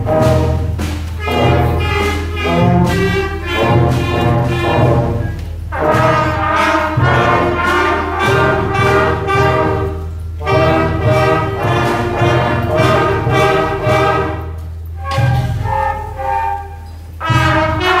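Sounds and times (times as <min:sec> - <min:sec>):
concert band playing: 0:00.0 - 0:18.0.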